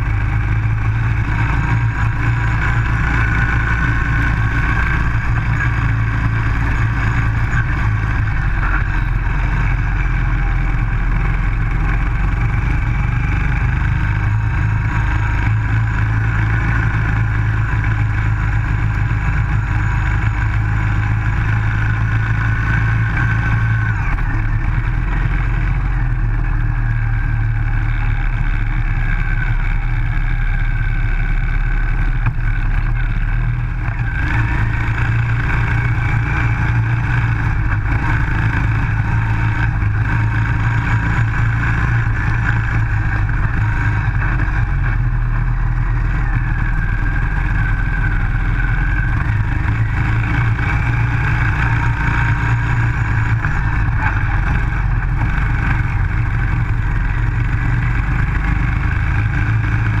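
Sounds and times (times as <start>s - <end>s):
small buggy engine running: 0.0s - 60.0s.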